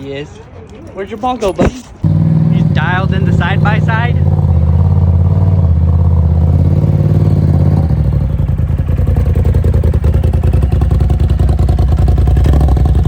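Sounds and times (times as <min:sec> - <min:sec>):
engine running loudly: 0:02.0 - 0:13.0.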